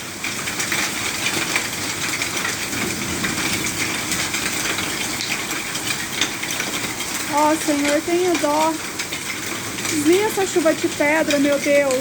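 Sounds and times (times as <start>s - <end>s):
hailstones clattering: 0.0s - 12.0s
heavy rain hissing: 1.7s - 12.0s.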